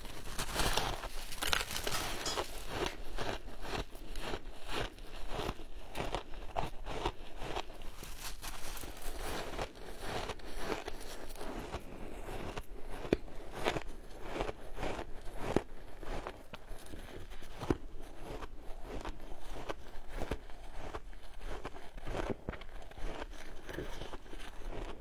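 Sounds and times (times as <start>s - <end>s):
ice crunching while chewed: 0.0s - 25.0s.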